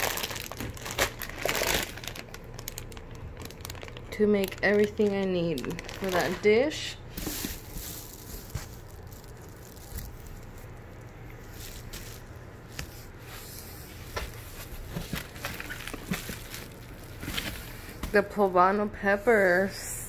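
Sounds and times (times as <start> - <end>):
plastic bags rustling: 0.0 - 18.4
low steady hum: 0.0 - 20.0.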